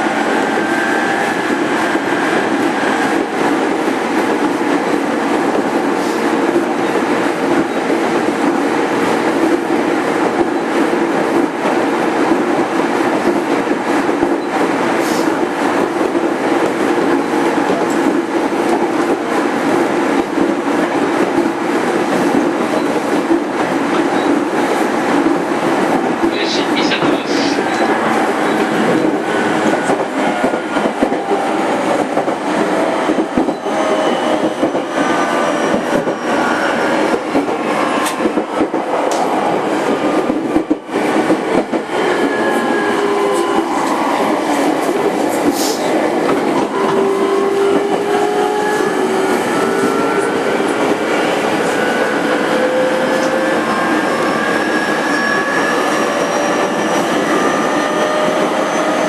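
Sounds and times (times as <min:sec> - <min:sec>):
train wheel noise: 0:00.0 - 0:59.0.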